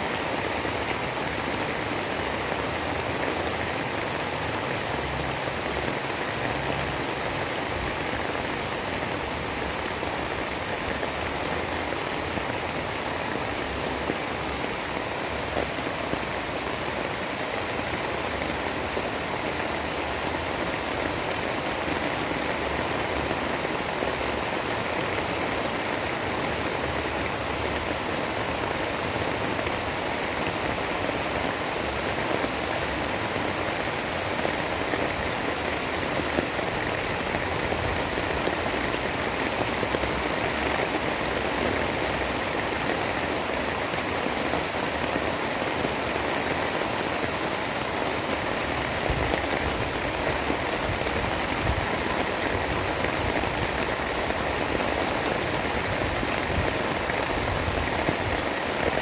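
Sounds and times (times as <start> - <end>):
heavy storm rain noise: 0.0 - 59.0.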